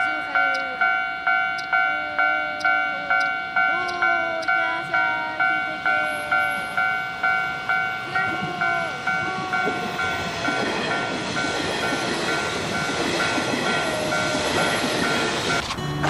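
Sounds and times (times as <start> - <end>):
electric train rolling past: 0.0 - 16.0
level-crossing warning bell: 0.0 - 16.0.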